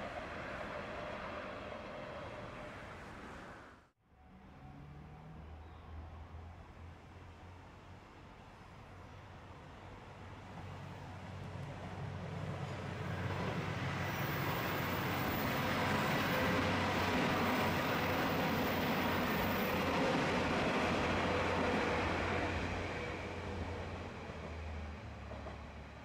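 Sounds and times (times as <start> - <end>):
diesel train running past: 0.0 - 26.0.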